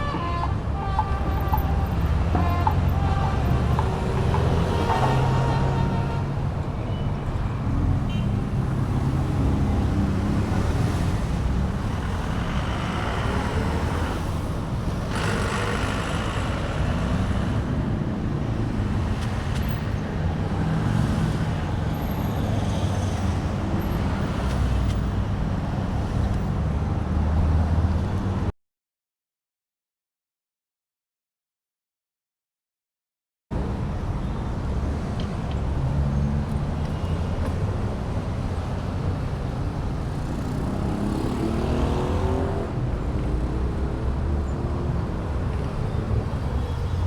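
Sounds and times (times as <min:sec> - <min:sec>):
bike road noise: 0:00.0 - 0:28.4, 0:33.6 - 0:47.0
traffic noise: 0:00.0 - 0:28.5, 0:33.5 - 0:47.0.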